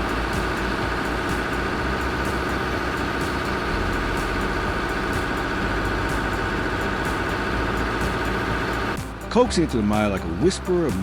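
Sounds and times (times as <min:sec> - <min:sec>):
heavy machine engine under load: 0:00.0 - 0:11.0.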